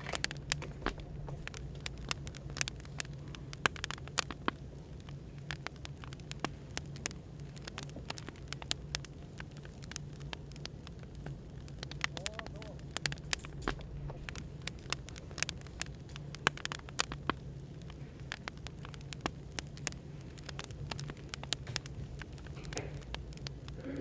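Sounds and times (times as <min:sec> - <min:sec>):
cafe background hum: 0:00.0 - 0:24.0
firewood crackling: 0:00.0 - 0:24.0.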